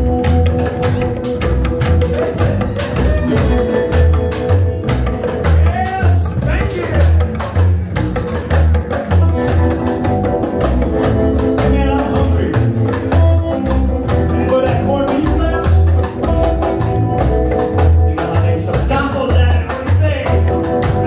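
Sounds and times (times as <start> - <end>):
double bass walking line: 0.0 - 21.0
drum kit beat: 0.0 - 21.0
electric guitar: 0.0 - 21.0.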